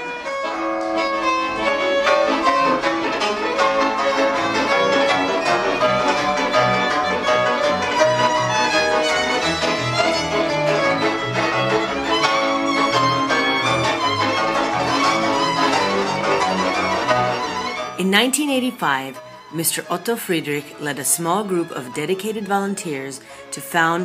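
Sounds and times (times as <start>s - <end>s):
fiddle playing folk melody: 0.0s - 24.0s
string accompaniment: 0.0s - 24.0s.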